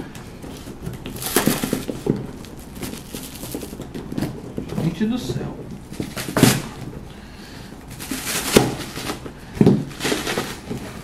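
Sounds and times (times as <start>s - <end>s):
cardboard box rustling: 0.5s - 7.1s, 7.9s - 11.0s.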